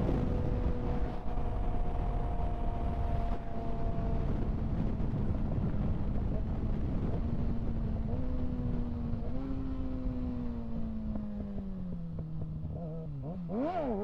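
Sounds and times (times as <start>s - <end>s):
wind rush on microphone: 0.0s - 11.6s
motorcycle engine cruising: 0.0s - 14.0s.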